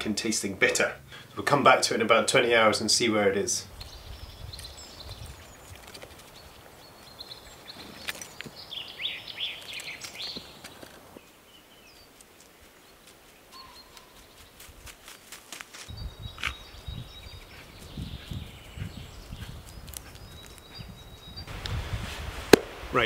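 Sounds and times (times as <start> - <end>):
small birds chirping: 0.0 - 21.5.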